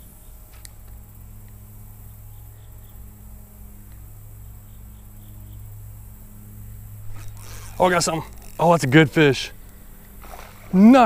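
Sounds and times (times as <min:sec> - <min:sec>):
insects chirping: 0:00.0 - 0:11.0
steady low hum: 0:00.0 - 0:11.0.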